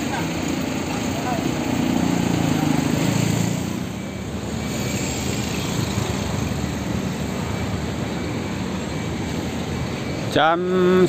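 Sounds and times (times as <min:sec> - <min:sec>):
bus diesel engine running: 0:00.0 - 0:11.0
traffic noise: 0:00.0 - 0:11.0.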